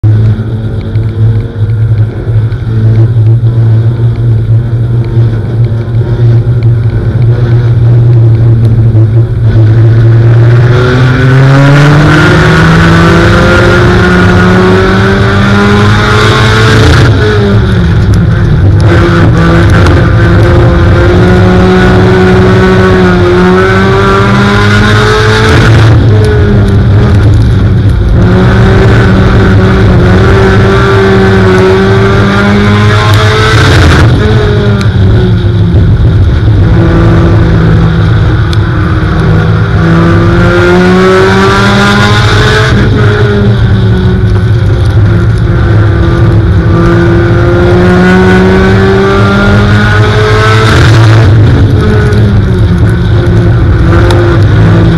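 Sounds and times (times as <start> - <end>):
stock car engine revving: 0.1 - 54.9.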